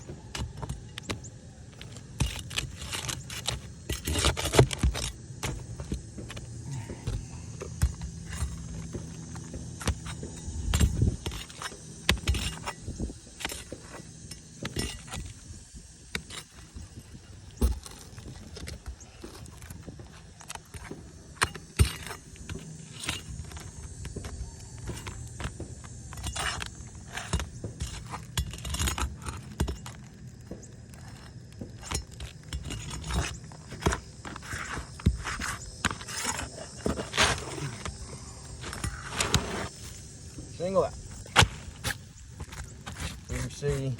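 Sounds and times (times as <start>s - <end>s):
metal tool scraping shingles: 0.1s - 43.9s.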